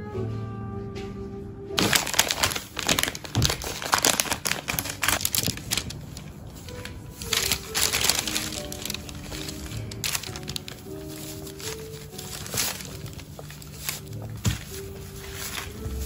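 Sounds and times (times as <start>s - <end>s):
baking paper crinkling: 1.8s - 16.0s.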